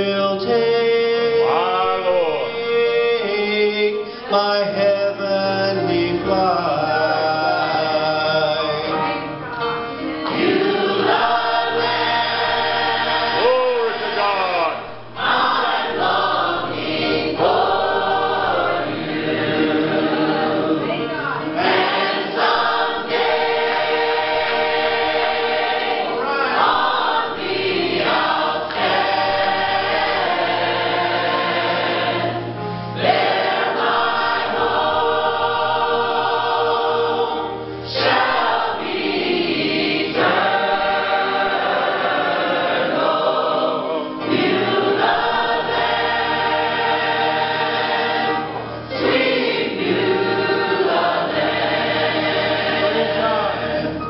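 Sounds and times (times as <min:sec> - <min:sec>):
gospel choir singing: 0:00.0 - 0:54.0.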